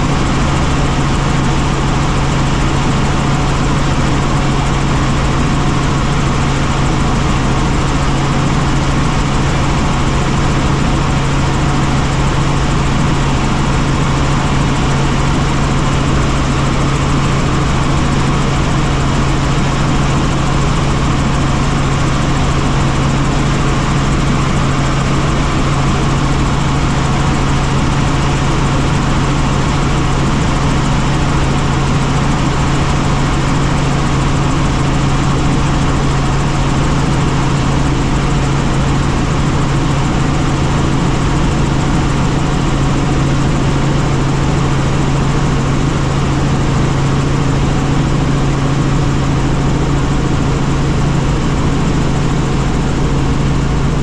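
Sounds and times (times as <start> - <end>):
helicopter engine and rotors: 0.0 - 54.0.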